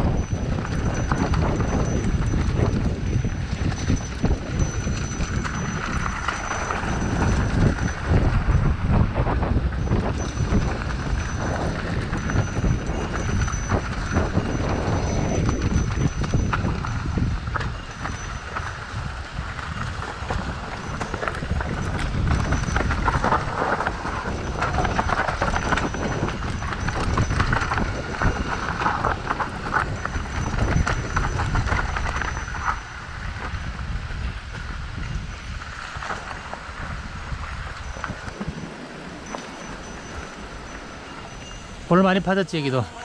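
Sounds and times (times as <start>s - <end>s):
mountain bike rattling on rocky trail: 0.0s - 43.0s.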